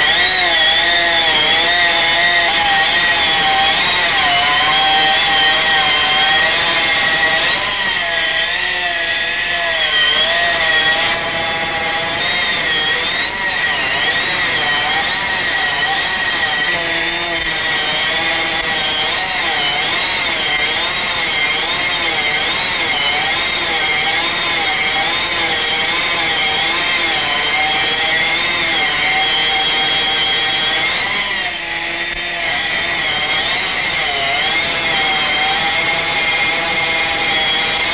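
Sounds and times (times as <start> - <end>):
stone-cutting saw grinding: 0.0 - 37.9.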